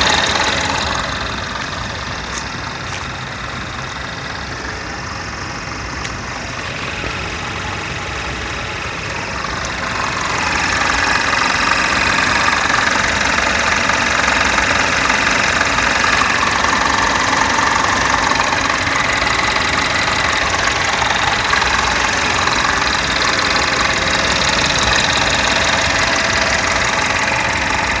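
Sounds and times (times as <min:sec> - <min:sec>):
car engine running: 0:00.0 - 0:28.0
steady mechanical noise: 0:00.0 - 0:28.0.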